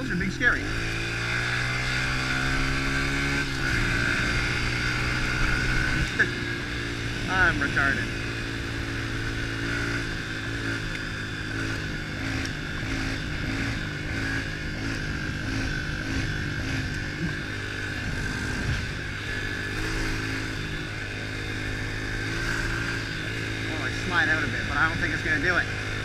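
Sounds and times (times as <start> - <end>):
motorbike engine running: 0.0 - 26.0.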